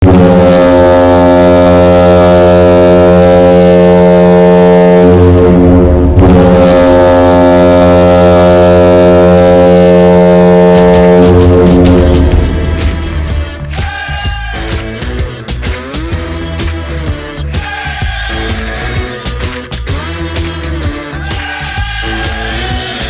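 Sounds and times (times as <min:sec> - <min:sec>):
arena goal horn blasts: 0:00.0 - 0:15.2, 0:17.5 - 0:23.0.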